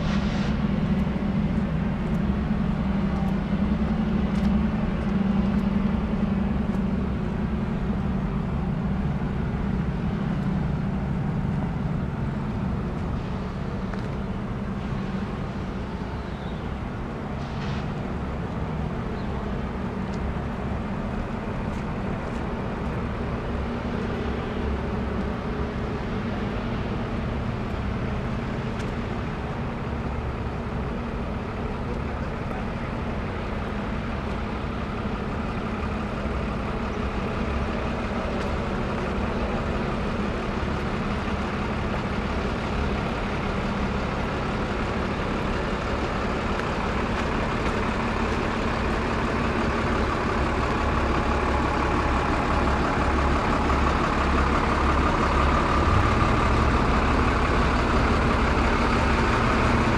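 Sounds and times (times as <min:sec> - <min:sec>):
heavy truck engine humming: 0:00.0 - 0:59.9.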